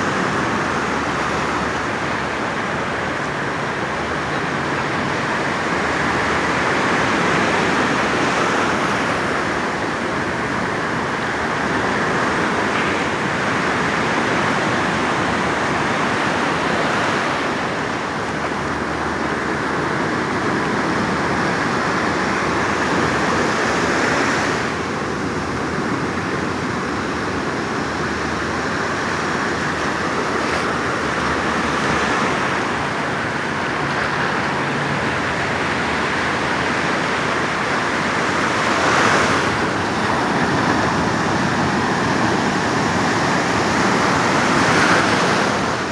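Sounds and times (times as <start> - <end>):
stormy surf breaking on beach: 0.0 - 45.9.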